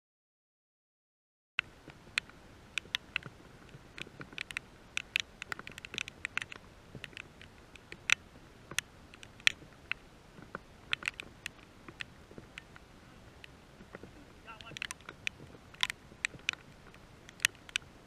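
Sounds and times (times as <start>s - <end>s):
raindrops tapping on camera: 1.6s - 18.0s.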